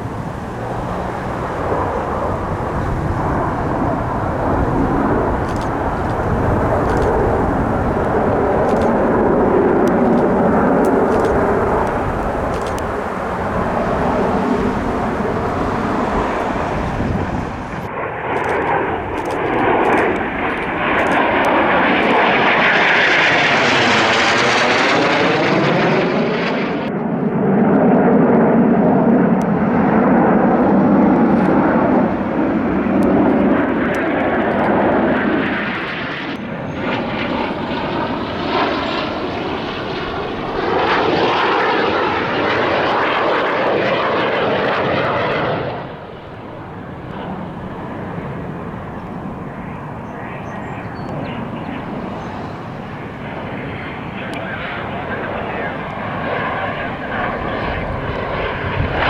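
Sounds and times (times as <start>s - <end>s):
aircraft engines passing: 0.0s - 59.0s.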